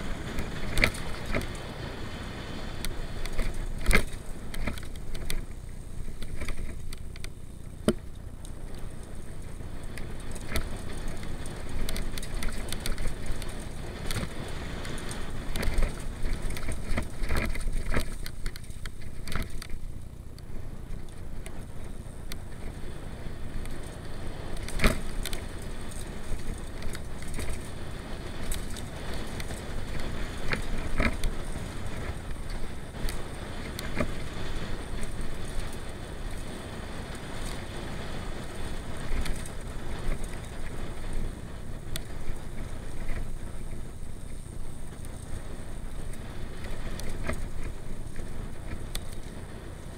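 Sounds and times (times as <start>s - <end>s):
bike rattling: 0.0s - 49.9s
bike tyres rumbling on dirt: 0.0s - 49.9s.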